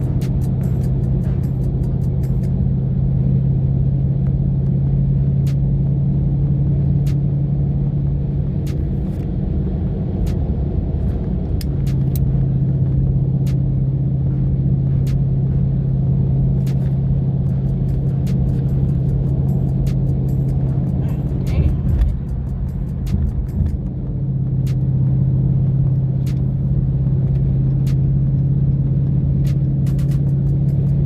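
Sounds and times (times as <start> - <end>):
car engine rumbling: 0.0 - 31.0.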